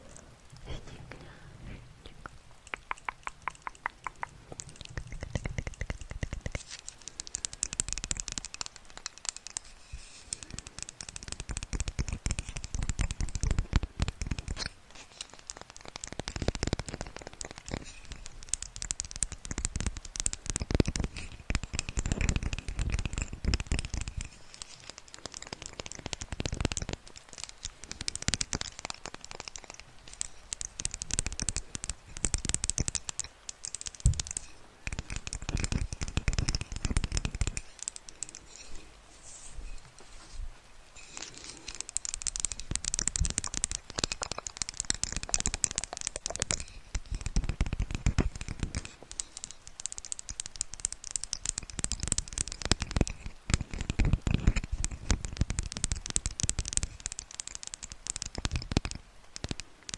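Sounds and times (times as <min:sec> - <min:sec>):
crackling and scratching: 0:00.0 - 0:59.9
quick clicks: 0:02.1 - 0:59.9.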